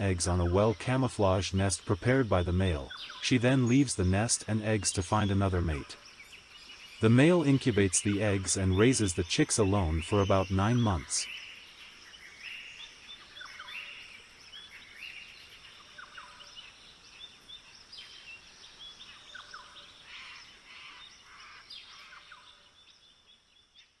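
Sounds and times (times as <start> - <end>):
steady high hiss: 0.0 - 22.2
small birds chirping: 0.0 - 24.0.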